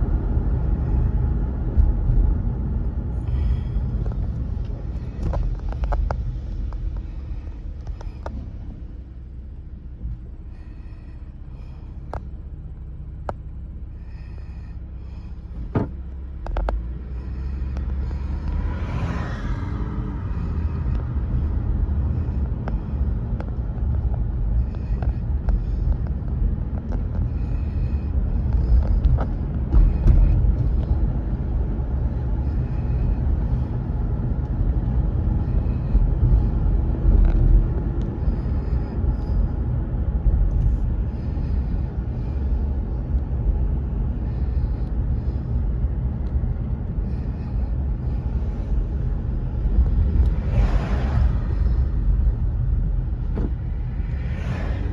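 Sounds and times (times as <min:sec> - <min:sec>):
car engine and tyre rumble: 0:00.0 - 0:54.9.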